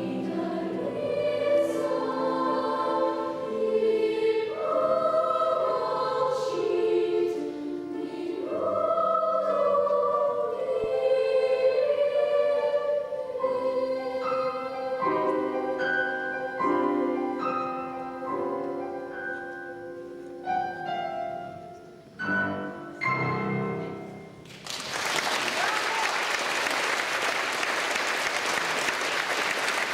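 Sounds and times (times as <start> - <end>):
children's choir singing: 0.0 - 24.3
piano chords: 0.0 - 24.6.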